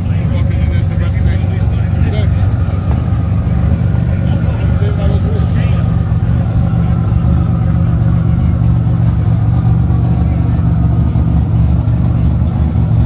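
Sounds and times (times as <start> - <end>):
drag car engine idling: 0.0 - 13.0.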